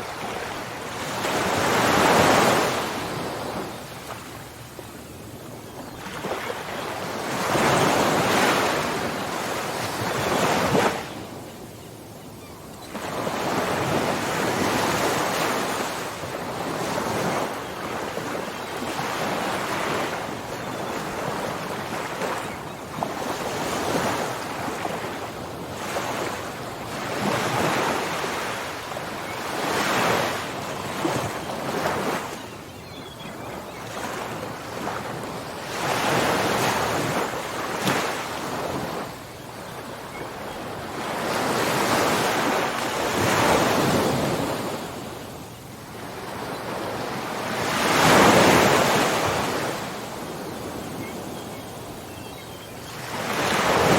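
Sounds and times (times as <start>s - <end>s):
ocean waves breaking on shore: 0.0s - 11.4s, 12.4s - 53.9s.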